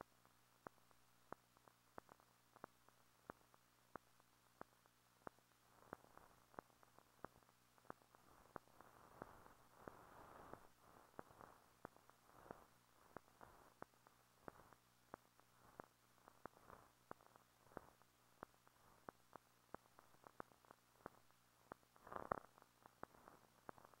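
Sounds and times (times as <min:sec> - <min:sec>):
film crackle with clicks and pops: 0:00.0 - 0:24.0
low steady hum: 0:00.0 - 0:24.0.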